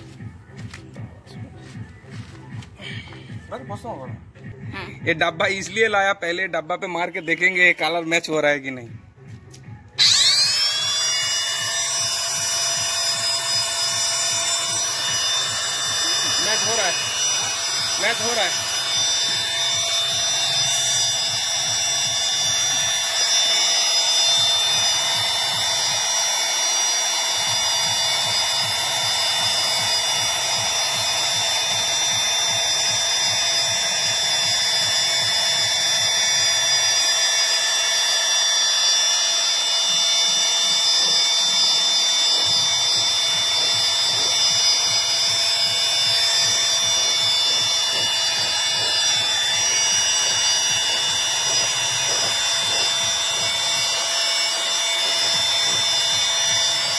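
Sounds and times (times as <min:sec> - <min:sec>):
spray gun motor whine: 0:10.0 - 0:56.9.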